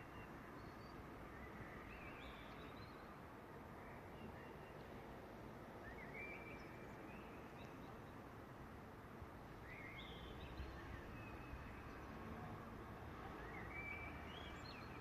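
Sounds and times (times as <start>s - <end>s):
faint city traffic hum: 0.0s - 15.0s.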